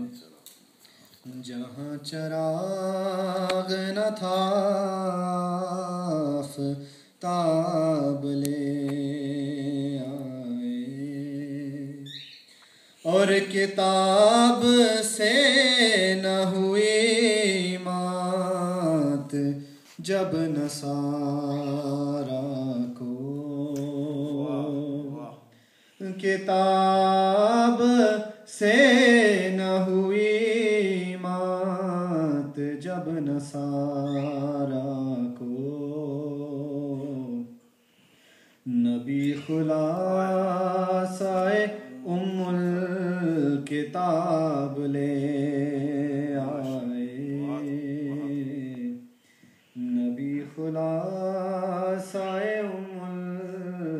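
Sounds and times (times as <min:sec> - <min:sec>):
man chanting into a microphone: 0:01.2 - 0:12.1, 0:13.0 - 0:37.6, 0:38.6 - 0:49.1, 0:49.7 - 0:53.9.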